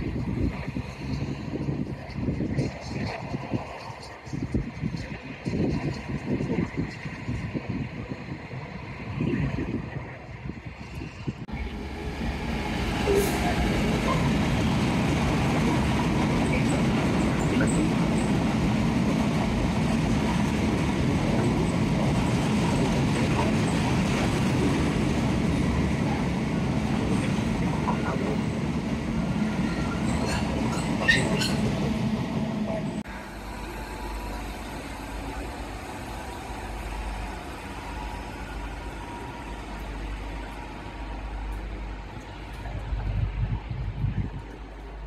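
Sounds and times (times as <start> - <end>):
train rumbling past: 0.0 - 45.0.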